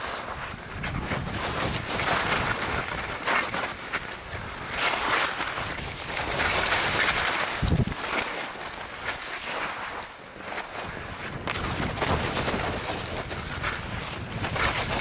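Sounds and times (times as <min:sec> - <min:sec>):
skis hissing and scraping on snow: 0:00.0 - 0:15.0
wind noise on microphone: 0:00.0 - 0:15.0.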